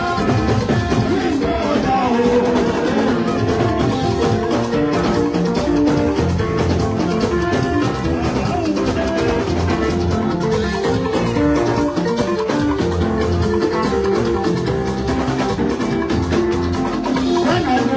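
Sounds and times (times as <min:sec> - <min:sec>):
music with drums: 0:00.0 - 0:17.9.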